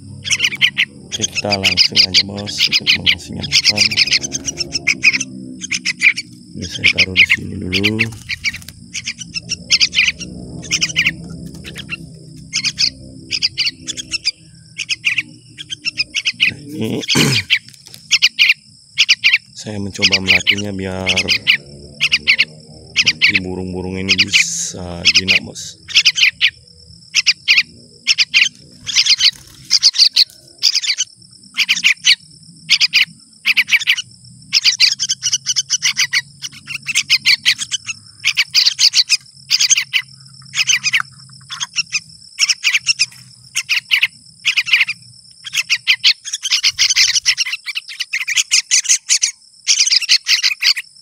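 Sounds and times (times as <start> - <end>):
fledglings begging calls: 0.0 - 51.0
high insect drone: 0.0 - 51.0.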